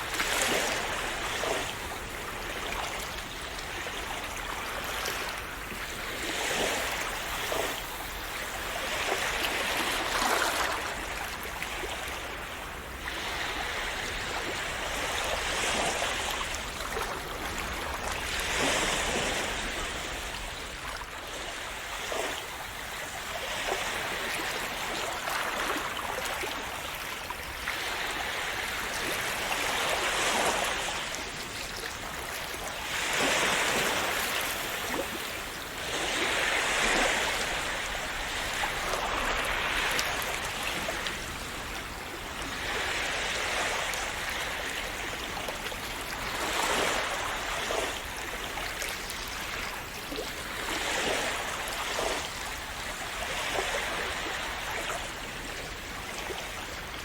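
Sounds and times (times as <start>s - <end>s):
sea waves washing in: 0.0s - 57.0s.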